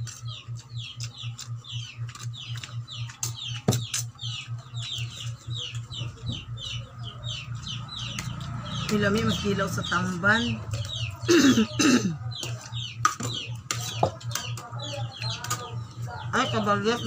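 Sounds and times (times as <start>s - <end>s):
bird chirping: 0.0s - 17.0s
low pulsing hum: 0.0s - 17.0s.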